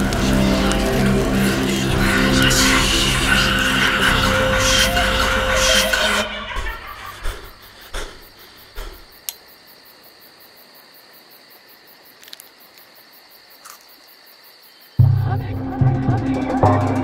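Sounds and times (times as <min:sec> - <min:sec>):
crickets chirring: 0:00.0 - 0:15.7.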